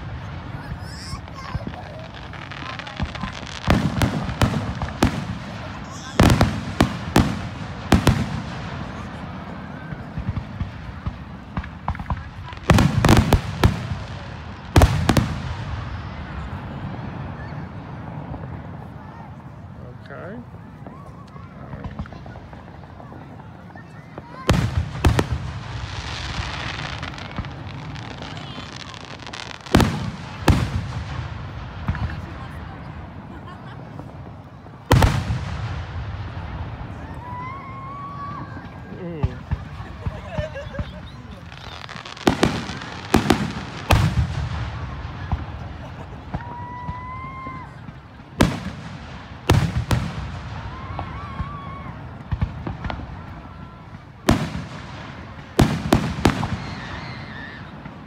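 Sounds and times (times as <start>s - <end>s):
distant firework booms: 0.0s - 18.9s, 24.1s - 58.0s
loud firework bangs: 0.0s - 19.6s, 20.5s - 58.0s
fireworks crackling: 0.0s - 58.0s.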